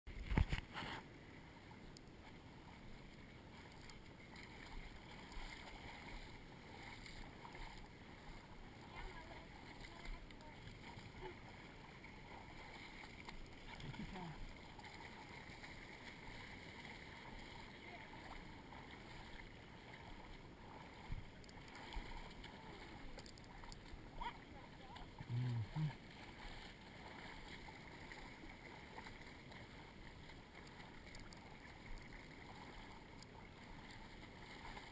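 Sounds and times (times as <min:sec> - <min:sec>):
dog sloshing through water: 0:02.2 - 0:34.9.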